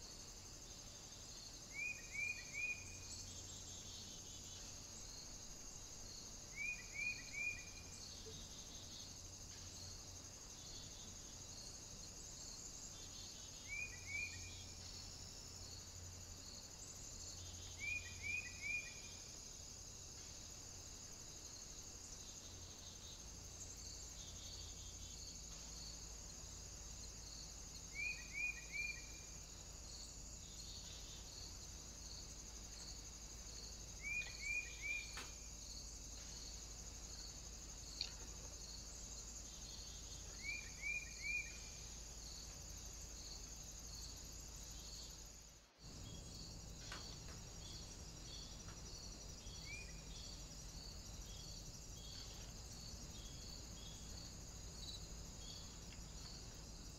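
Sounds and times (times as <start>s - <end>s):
crickets chirping: 0.0s - 56.9s.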